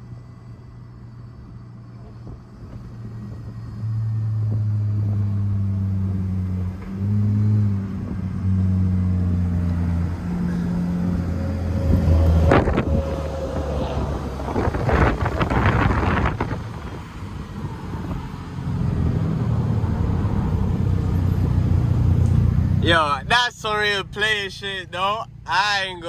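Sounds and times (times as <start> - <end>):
car engine running: 0.0 - 26.0
engine and exhaust rush: 0.0 - 26.0.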